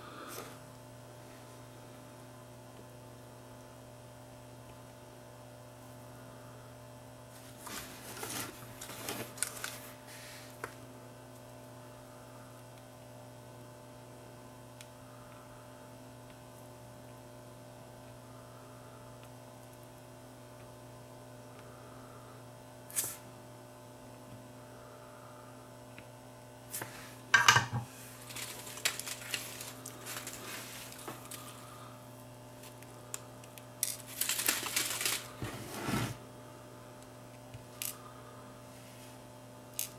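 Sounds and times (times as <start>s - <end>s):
steady mains hum: 0.0s - 39.9s.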